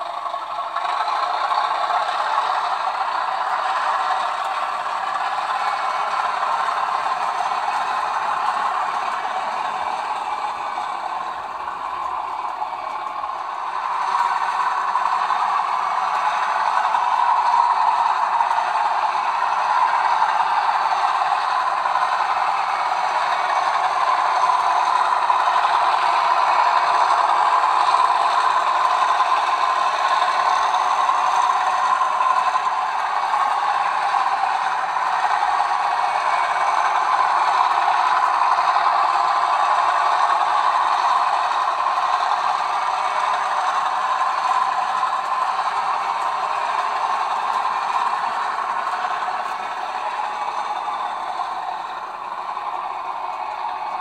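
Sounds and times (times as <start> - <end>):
model train wheels clattering: 0.0 - 54.0.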